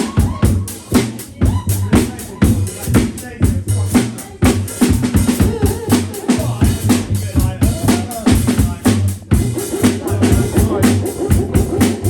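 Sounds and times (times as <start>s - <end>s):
dj music with deep bass line: 0.0s - 12.0s
drum kit playing: 0.0s - 12.0s.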